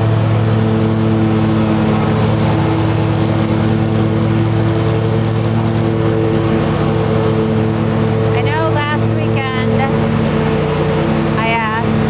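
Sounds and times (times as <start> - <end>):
riding lawn mower engine: 0.0 - 12.0.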